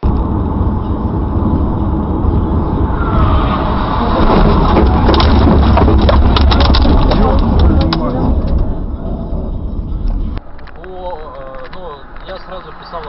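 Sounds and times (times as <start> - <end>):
car road noise from inside: 0.0 - 13.0.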